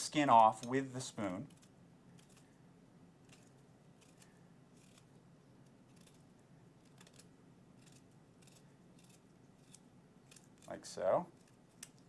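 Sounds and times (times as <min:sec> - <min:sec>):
spoon scraping ginger skin: 0:00.2 - 0:02.5, 0:03.2 - 0:12.0.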